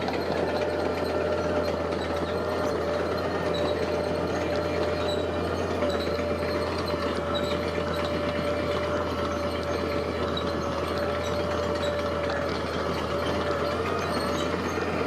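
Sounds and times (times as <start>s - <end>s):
construction machinery engine rumble: 0.0s - 15.0s.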